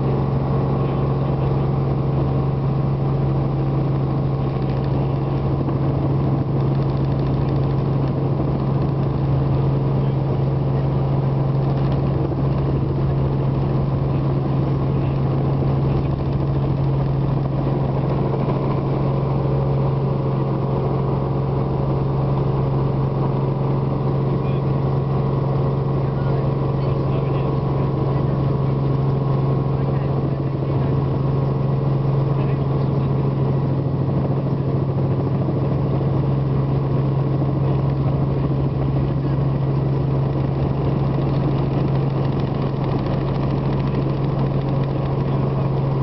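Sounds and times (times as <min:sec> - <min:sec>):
engine drone inside vehicle: 0:00.0 - 0:46.0.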